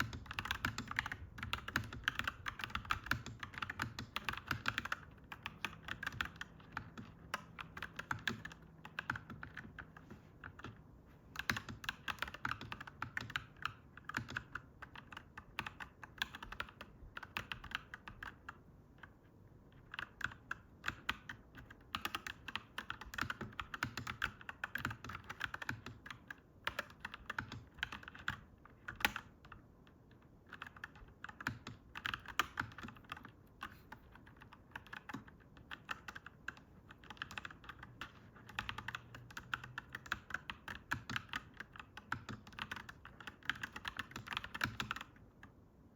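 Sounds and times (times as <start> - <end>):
mechanical keyboard typing: 0.0 - 45.7.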